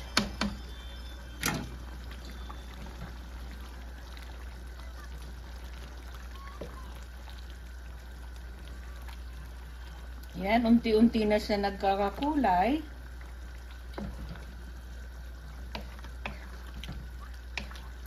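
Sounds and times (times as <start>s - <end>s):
constant low hum: 0.0s - 18.0s
stew bubbling in a wok: 0.0s - 18.0s
wooden spatula stirring: 1.4s - 10.4s, 11.9s - 18.0s.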